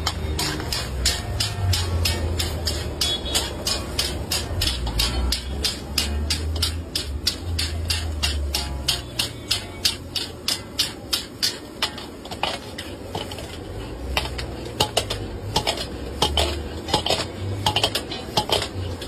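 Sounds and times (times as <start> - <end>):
metal spatula clanging on a wok: 0.0 - 19.0.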